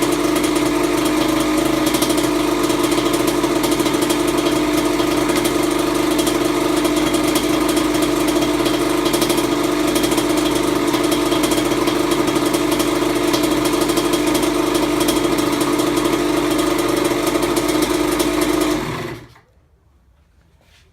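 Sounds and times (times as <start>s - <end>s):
two-stroke engine idling: 0.0s - 19.4s.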